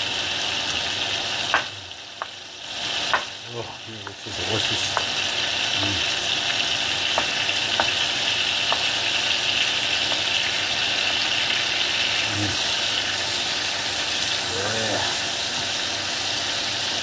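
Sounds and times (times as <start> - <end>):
butter sizzling in a frying pan: 0.0 - 17.0.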